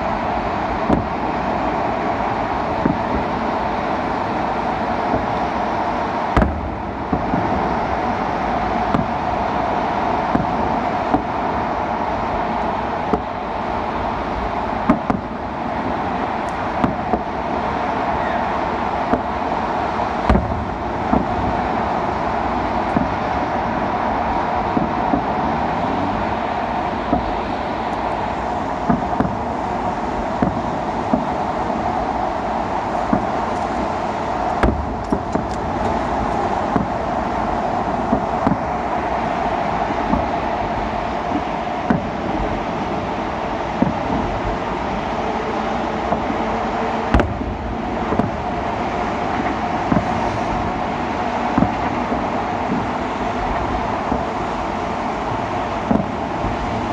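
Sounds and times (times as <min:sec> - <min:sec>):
city traffic: 0:00.0 - 0:56.9
distant firework bangs: 0:00.0 - 0:56.9.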